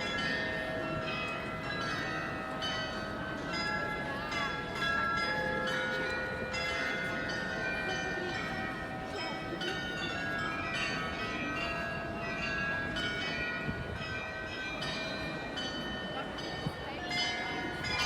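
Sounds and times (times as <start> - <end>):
crowd murmur: 0.0 - 18.0
glockenspiel bells playing a tune: 0.0 - 18.0.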